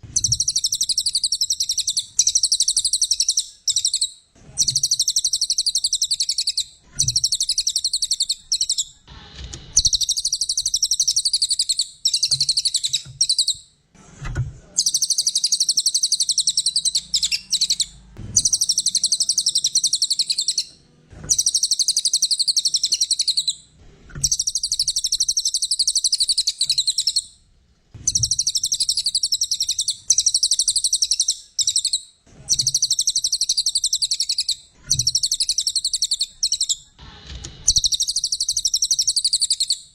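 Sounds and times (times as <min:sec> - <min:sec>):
songbird twittering: 0:00.1 - 0:08.9, 0:09.8 - 0:13.6, 0:14.8 - 0:20.7, 0:21.3 - 0:23.6, 0:24.2 - 0:27.3, 0:28.0 - 0:36.9, 0:37.7 - 0:39.8.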